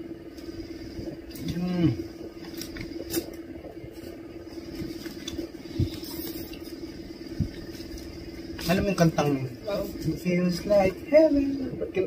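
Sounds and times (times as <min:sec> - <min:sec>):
steady low hum: 0:00.0 - 0:12.0
people chewing food: 0:00.3 - 0:10.2.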